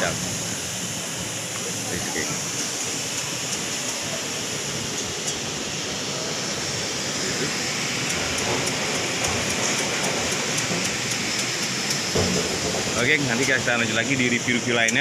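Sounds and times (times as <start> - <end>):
rushing market hall background noise: 0.0 - 15.0.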